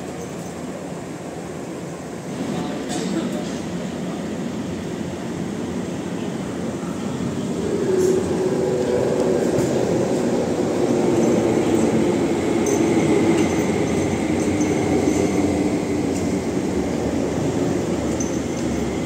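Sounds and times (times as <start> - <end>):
train rumbling inside carriage: 0.0 - 19.0.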